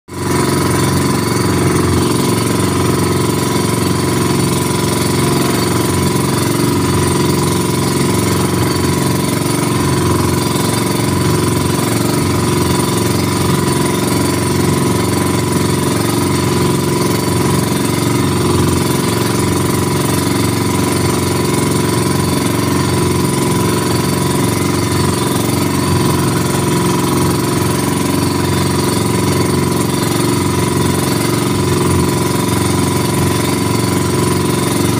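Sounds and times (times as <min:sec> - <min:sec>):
boat engine droning: 0:00.1 - 0:34.9.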